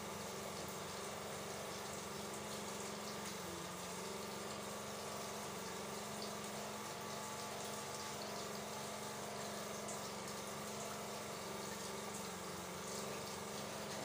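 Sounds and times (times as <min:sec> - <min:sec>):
water running: 0:00.0 - 0:14.0.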